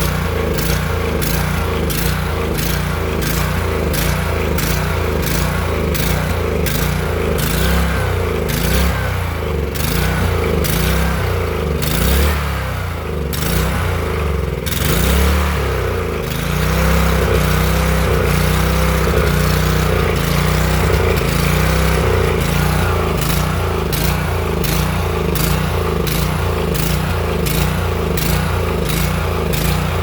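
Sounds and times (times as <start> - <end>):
pressure washer engine running: 0.0 - 30.0.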